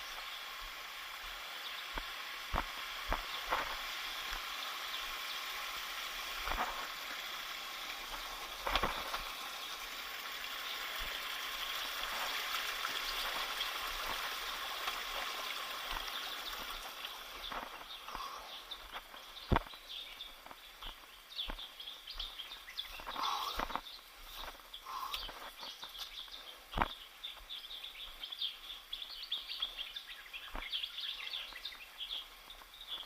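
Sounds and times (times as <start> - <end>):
stream flowing over rocks: 0.0 - 33.0.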